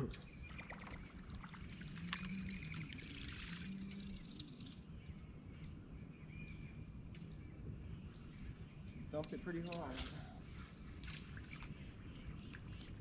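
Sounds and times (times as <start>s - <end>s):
high-pitched insect drone: 0.0s - 12.9s.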